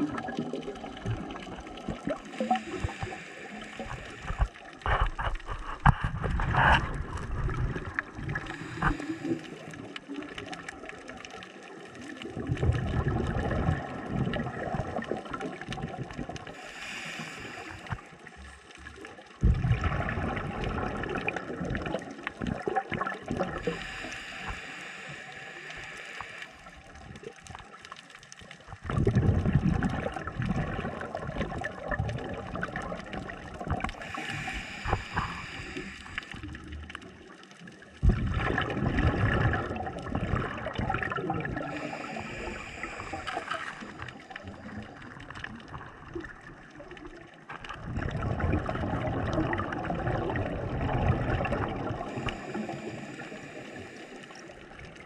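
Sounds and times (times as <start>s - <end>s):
water bubbling underwater: 0.0s - 55.0s.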